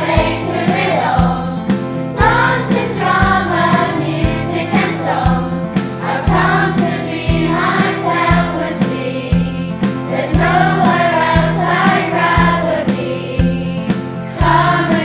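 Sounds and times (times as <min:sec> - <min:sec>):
backing track with steady beat: 0:00.0 - 0:15.0
children's choir singing: 0:00.0 - 0:15.0.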